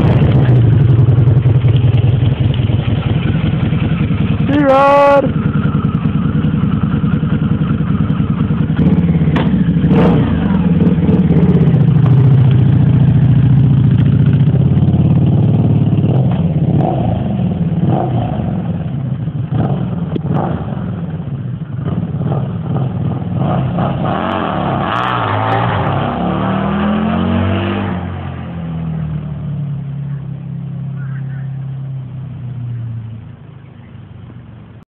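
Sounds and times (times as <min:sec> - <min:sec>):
motorcycle engine revving: 0:00.0 - 0:33.2.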